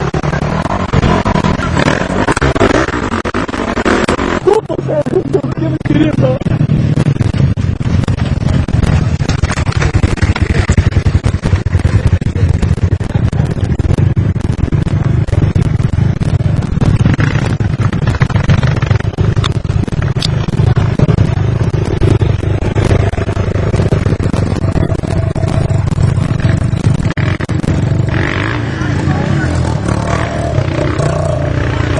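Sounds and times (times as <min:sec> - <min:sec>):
motorcycle engines running: 0:00.0 - 0:31.9
rumble and crackle on microphone: 0:00.0 - 0:31.9.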